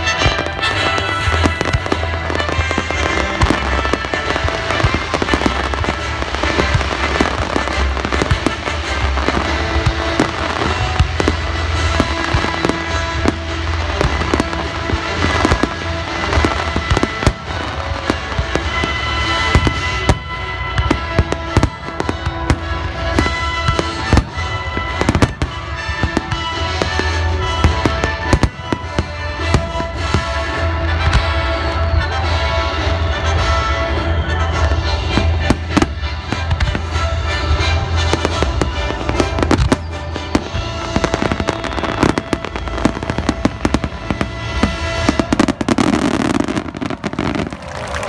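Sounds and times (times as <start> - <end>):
fireworks bursting: 0.0 - 32.8, 33.9 - 48.0
music playing: 0.0 - 48.0.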